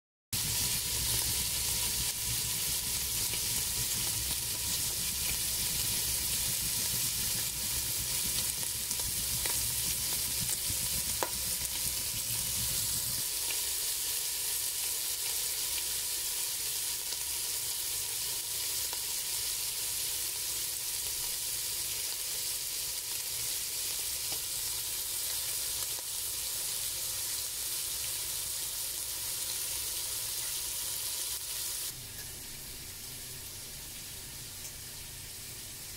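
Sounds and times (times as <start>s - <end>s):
pork sizzling in oil: 0.3s - 35.9s.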